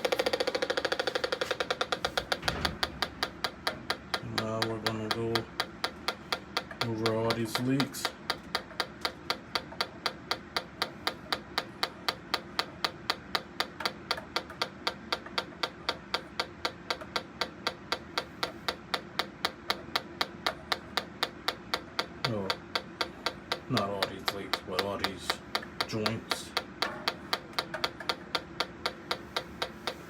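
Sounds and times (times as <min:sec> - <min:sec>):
gas detector ticking: 0:00.0 - 0:30.0.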